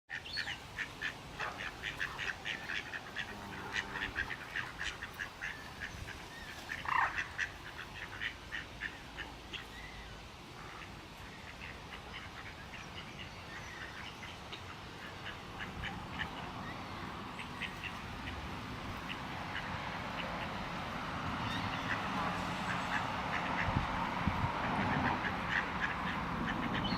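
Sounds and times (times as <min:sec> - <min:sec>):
waterbirds calling: 0:00.1 - 0:26.9.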